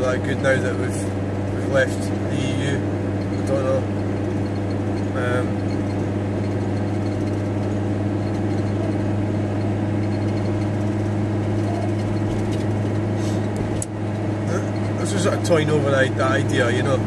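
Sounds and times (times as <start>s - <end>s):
van engine and road drone: 0.0s - 17.0s.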